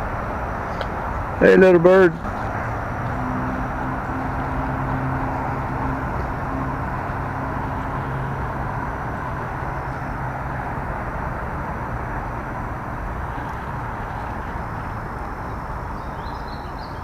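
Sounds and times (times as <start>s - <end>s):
steady low rushing noise: 0.0s - 16.6s.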